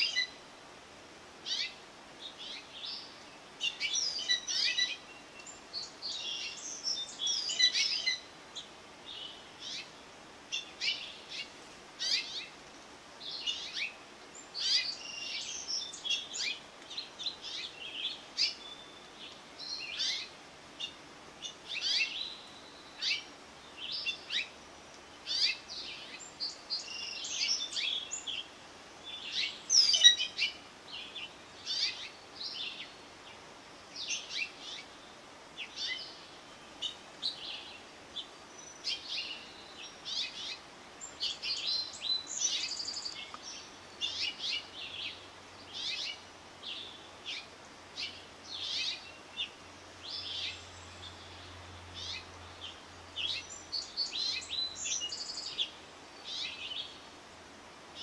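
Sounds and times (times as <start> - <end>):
songbirds chirping and singing: 0.0 - 0.5, 1.4 - 58.0
faint outdoor hiss: 0.0 - 58.0.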